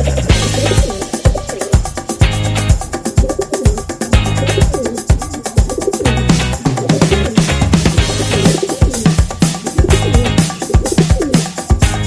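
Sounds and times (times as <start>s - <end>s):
music with deep drum beat: 0.0s - 12.0s.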